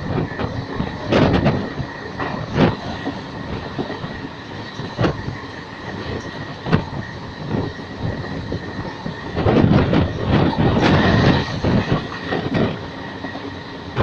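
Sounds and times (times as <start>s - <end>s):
train wheels clattering on track: 0.0s - 14.0s.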